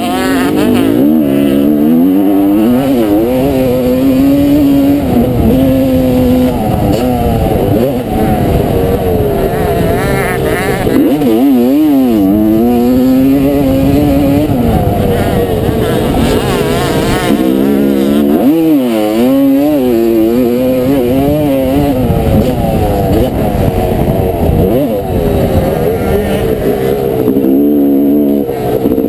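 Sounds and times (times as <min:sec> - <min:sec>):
two-stroke motorcycle engine revving: 0:00.0 - 0:29.0
wind noise: 0:00.0 - 0:29.0.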